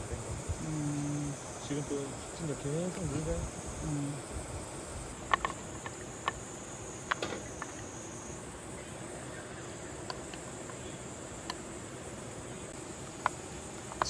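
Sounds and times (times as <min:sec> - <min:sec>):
high-pitched insect chirring: 0:00.0 - 0:14.0.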